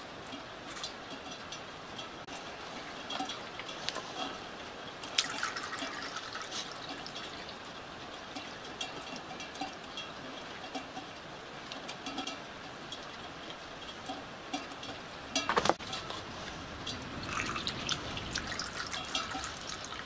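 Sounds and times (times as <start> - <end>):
water pouring through a funnel: 0.2 - 20.0.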